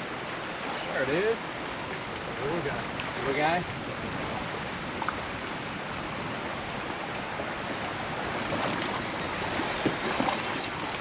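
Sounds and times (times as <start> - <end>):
water lapping against boat hull: 0.3 - 11.0.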